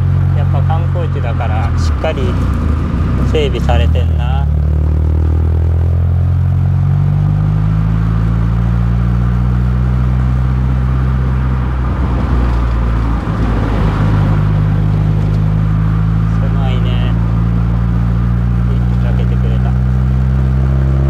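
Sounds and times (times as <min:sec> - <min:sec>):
car engine drone from cabin: 0:00.0 - 0:21.0
road noise: 0:00.0 - 0:21.0.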